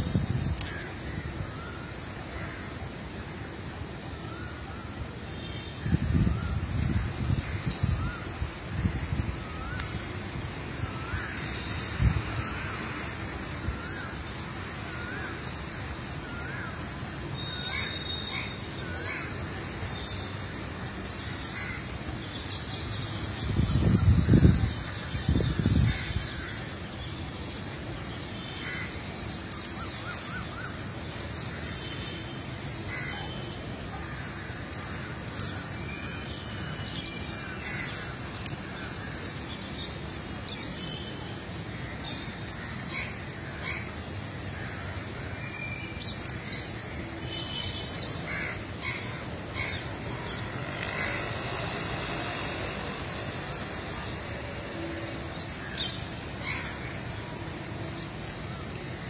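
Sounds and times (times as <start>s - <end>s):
steady background noise: 0.0s - 59.0s.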